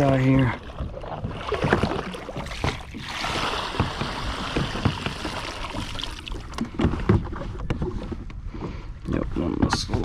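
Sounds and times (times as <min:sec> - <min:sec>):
water sloshing around kayak: 0:00.0 - 0:10.0.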